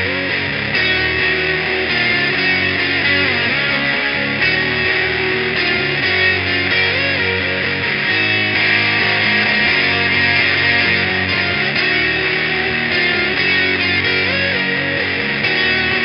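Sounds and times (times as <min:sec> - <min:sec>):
distorted electric guitar riff: 0:00.0 - 0:16.0.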